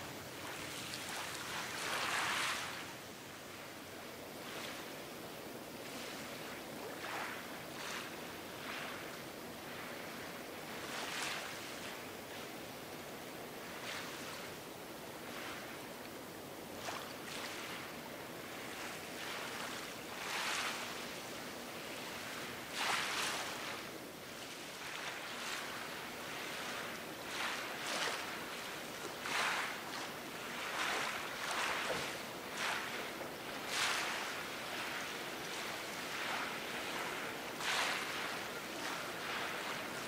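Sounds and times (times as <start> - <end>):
small waves lapping: 0.0 - 40.0.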